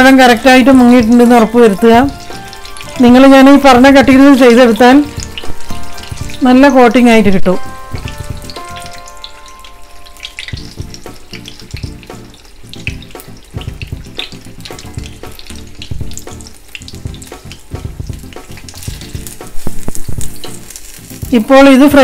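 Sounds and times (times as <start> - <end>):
background music: 0.0 - 22.0
deep-frying oil sizzling: 0.0 - 22.0.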